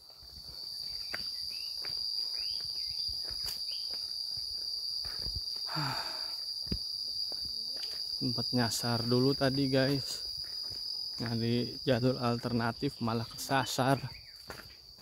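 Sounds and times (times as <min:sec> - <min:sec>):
footsteps on dirt path: 0:00.0 - 0:15.0
insects shrilling: 0:00.6 - 0:14.4.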